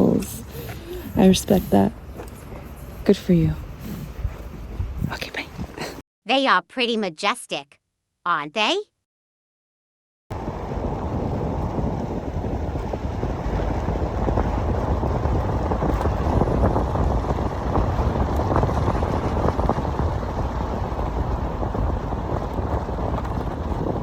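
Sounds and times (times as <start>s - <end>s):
wind buffeting microphone: 0.0s - 6.0s, 10.3s - 24.0s.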